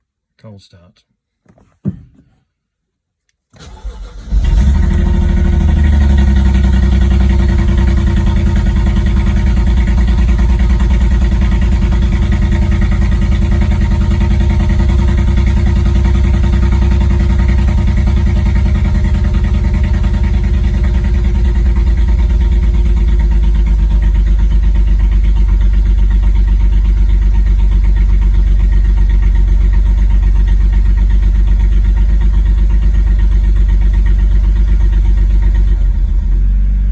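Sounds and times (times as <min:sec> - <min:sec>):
car engine cranking: 0:03.6 - 0:36.6
rough car engine idling: 0:03.6 - 0:36.9.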